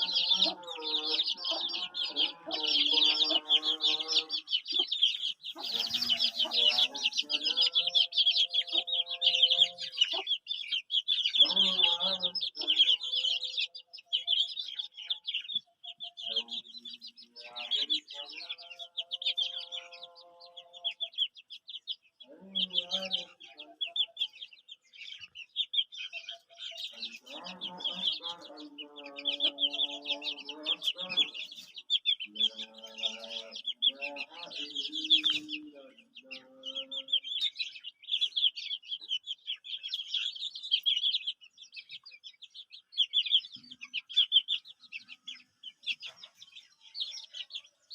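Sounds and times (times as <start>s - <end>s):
adult chickens clucking: 0.0s - 47.9s
chicks peeping: 0.0s - 47.9s.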